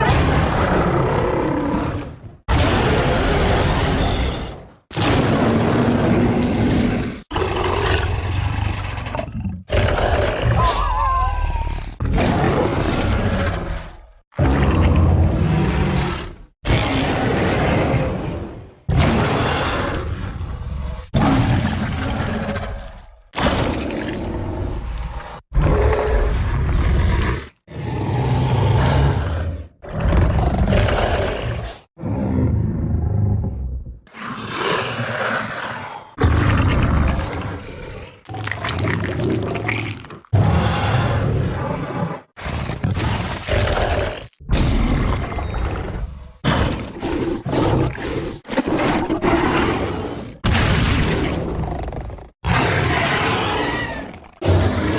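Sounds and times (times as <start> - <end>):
monster roars: 0.0 - 54.9.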